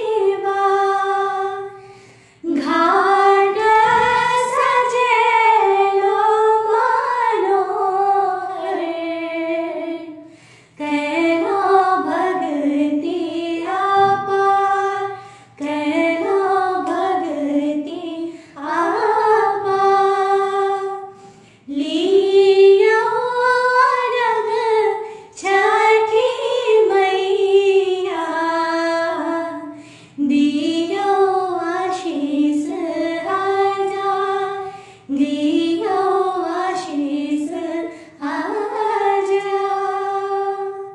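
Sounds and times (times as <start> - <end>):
women singing unaccompanied: 0.0 - 40.9.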